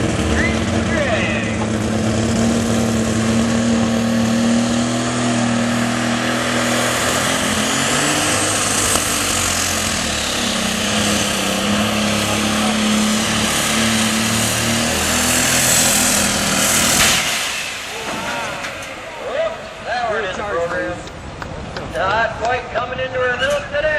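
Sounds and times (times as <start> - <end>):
high turbo whine: 0.0 - 21.4
diesel tractor engine under load: 0.0 - 23.9.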